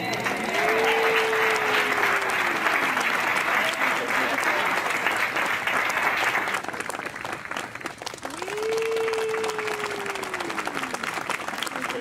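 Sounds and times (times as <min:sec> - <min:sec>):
congregation applauding: 0:00.0 - 0:12.0.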